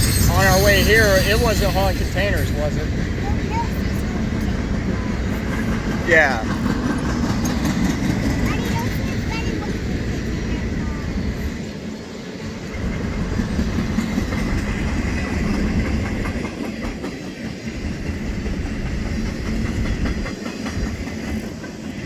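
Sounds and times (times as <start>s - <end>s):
clickety-clack over rail joints: 0.0s - 22.0s
train wheels rumbling on rail: 0.0s - 22.0s.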